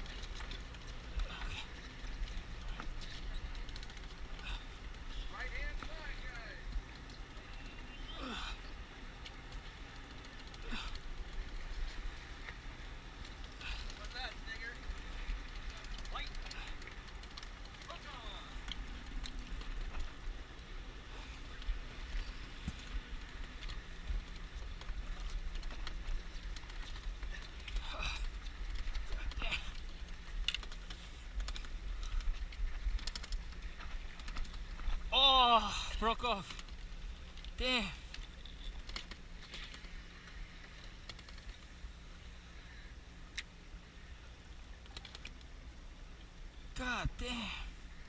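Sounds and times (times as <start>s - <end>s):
small clicks: 0.0s - 8.3s, 9.1s - 12.6s, 13.2s - 20.7s, 21.5s - 35.1s, 36.2s - 41.8s, 43.3s - 43.6s, 44.6s - 45.6s.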